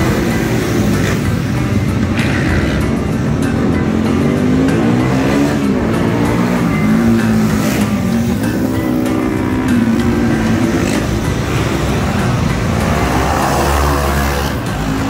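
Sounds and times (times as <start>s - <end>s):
minibike engines revving: 0.0s - 15.0s.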